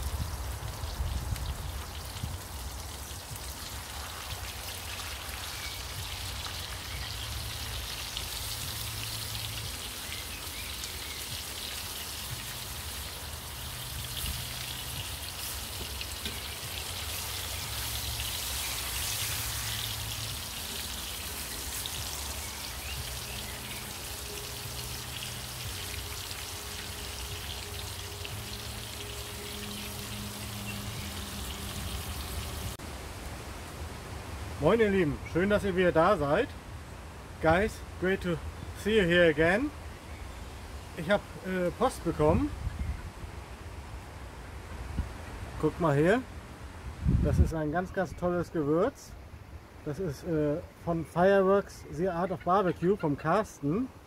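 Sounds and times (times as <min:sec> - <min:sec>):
crackling and sizzling hiss: 0:00.0 - 0:54.0.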